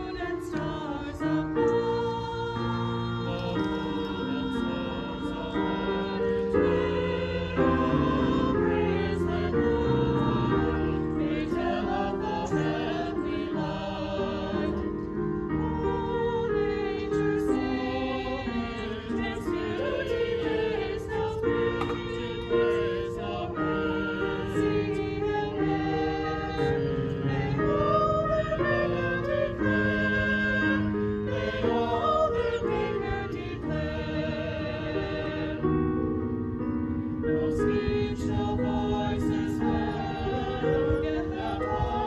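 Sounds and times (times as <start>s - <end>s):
choir singing a hymn: 0.0s - 42.0s.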